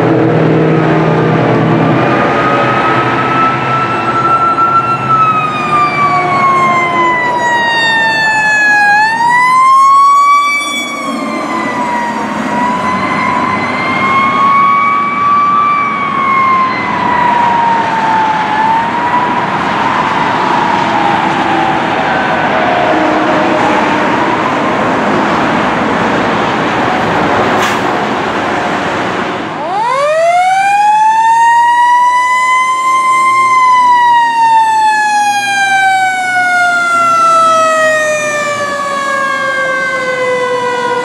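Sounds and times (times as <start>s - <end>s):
fire engine siren wailing: 0.0s - 41.0s
truck engine: 0.0s - 41.0s.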